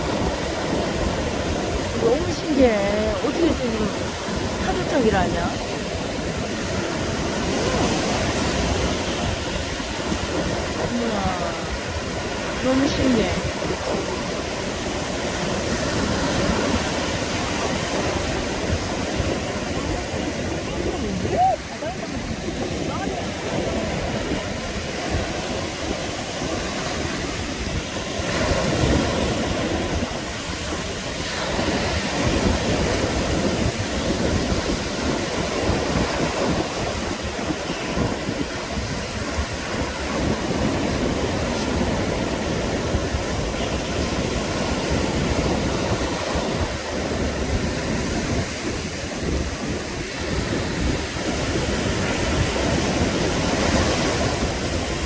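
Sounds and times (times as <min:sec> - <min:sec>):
sea surf breaking: 0:00.0 - 0:55.0
wind on microphone: 0:00.0 - 0:55.0.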